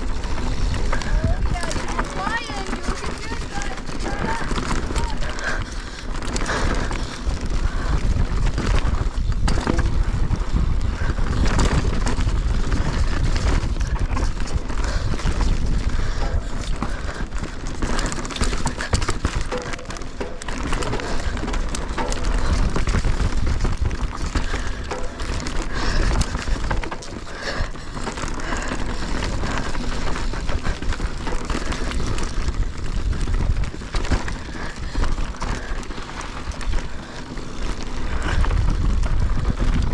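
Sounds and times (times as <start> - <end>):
bike chain and frame rattling: 0.0 - 39.9
tyres scrabbling over dirt and rocks: 0.0 - 39.9
wind rumbling on microphone: 0.0 - 39.9.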